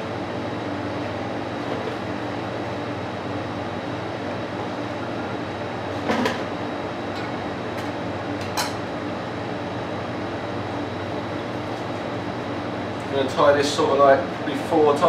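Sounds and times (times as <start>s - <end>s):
ventilation hum: 0.0s - 15.0s.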